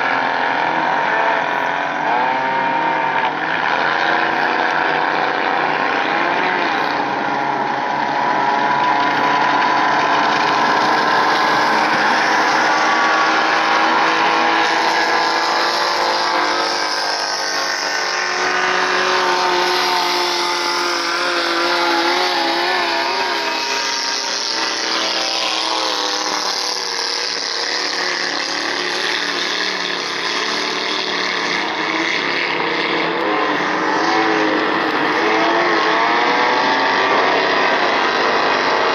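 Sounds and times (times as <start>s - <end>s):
speedboat engines revving: 0.0s - 38.9s.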